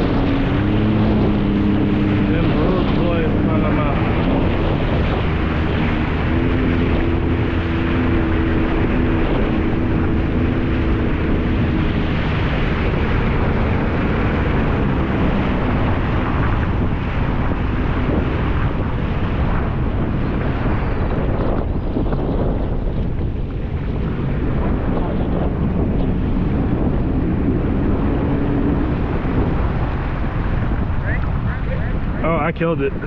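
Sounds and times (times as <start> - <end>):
jet ski engine running: 0.0 - 33.0
rushing water: 0.0 - 33.0
wind buffeting microphone: 0.0 - 33.0.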